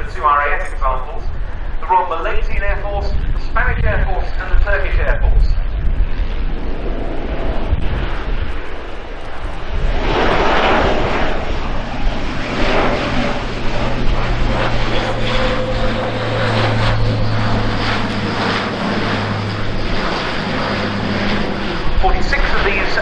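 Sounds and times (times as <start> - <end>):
broad rushing noise: 0.0 - 23.0
propeller aircraft droning: 0.0 - 23.0.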